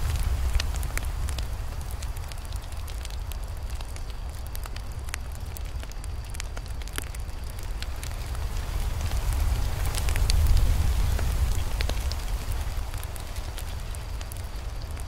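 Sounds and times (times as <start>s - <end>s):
fire low rumble: 0.0s - 15.0s
wood crackling and popping: 0.0s - 15.0s.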